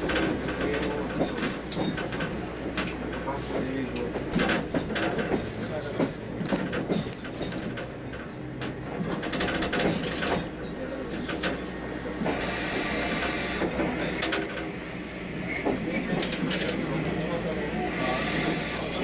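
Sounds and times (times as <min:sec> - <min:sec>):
railcar low rumble: 0:00.0 - 0:19.0.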